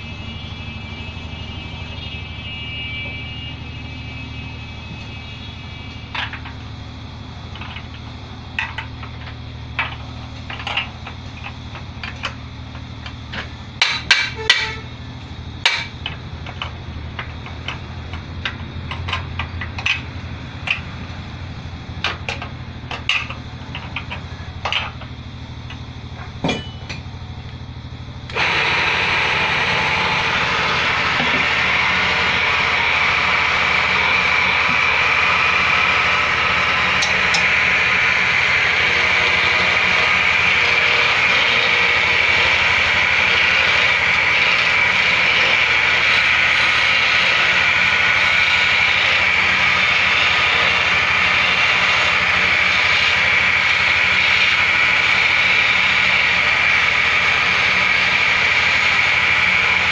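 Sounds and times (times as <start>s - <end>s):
wood lathe motor humming: 0.0s - 59.9s.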